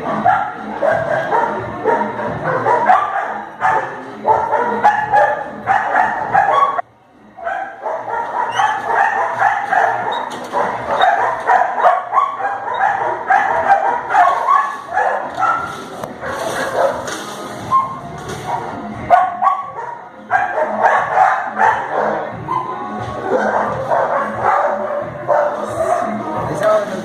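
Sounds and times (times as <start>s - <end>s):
dog barking and yipping: 0.0s - 6.8s, 7.4s - 17.1s, 17.7s - 26.2s.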